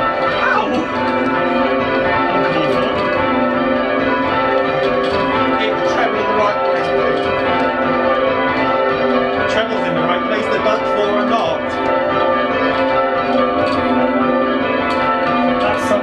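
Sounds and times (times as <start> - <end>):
church bells change ringing: 0.0 - 16.0.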